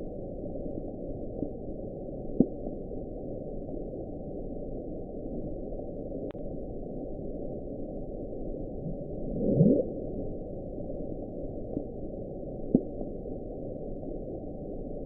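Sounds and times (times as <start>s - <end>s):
muffled low background noise: 0.0s - 15.0s.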